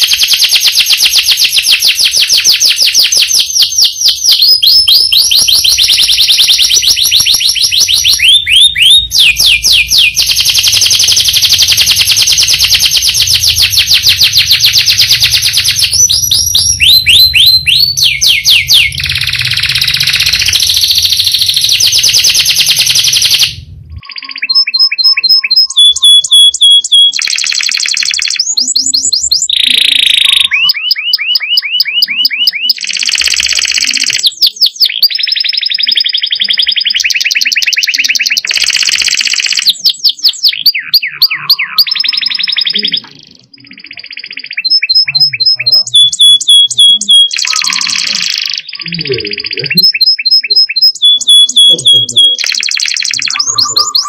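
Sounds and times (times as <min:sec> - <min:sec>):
canary trilling song: 0:00.0 - 0:54.0
canary whistled notes: 0:01.4 - 0:33.0, 0:33.7 - 0:54.0.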